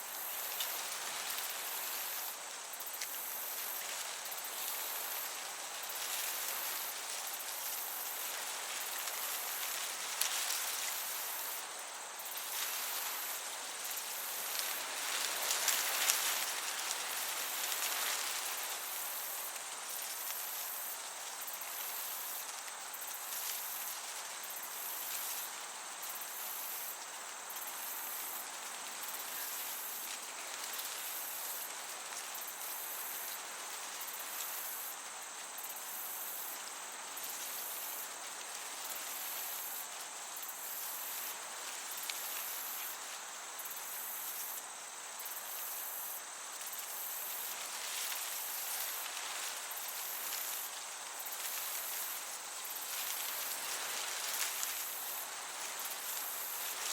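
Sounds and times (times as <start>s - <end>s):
crickets chirring: 0.0s - 56.9s
gentle breeze hiss: 0.0s - 56.9s.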